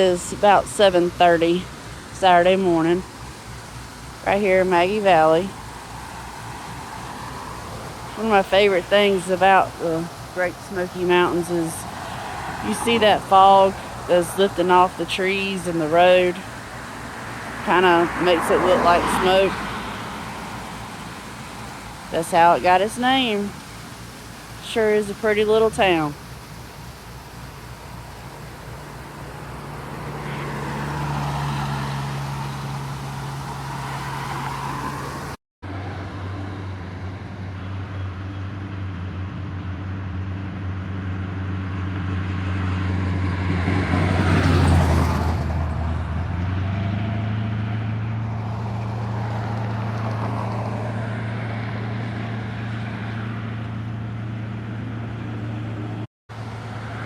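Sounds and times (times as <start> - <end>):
car engines driving past: 0.0 - 57.0.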